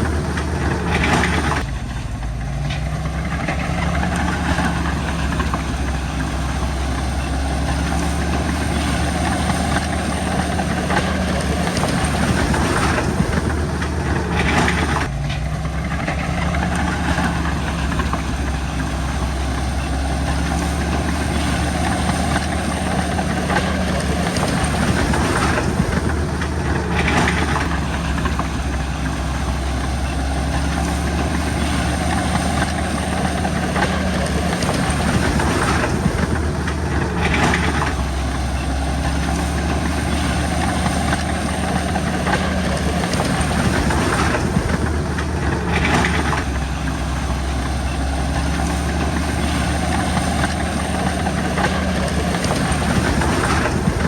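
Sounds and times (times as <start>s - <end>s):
diesel bulldozer engine running: 0.0s - 54.0s.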